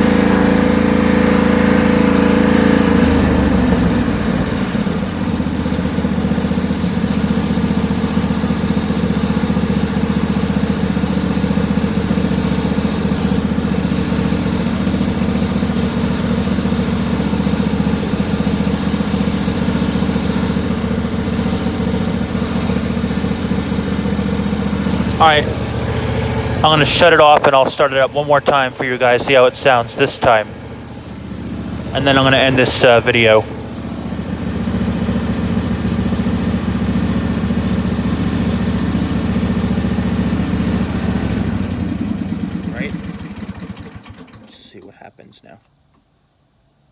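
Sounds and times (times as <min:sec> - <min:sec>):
lawn tractor engine running: 0:00.0 - 0:45.0.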